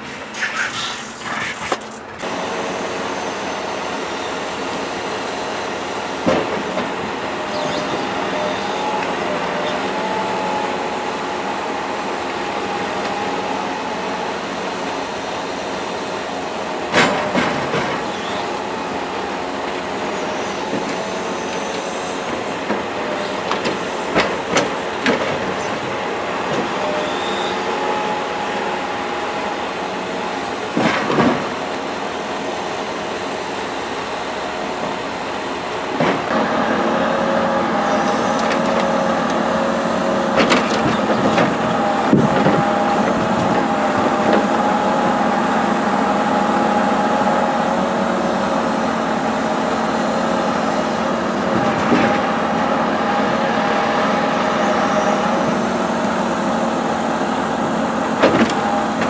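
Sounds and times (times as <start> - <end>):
hydraulic crane engine droning: 0.0 - 59.0.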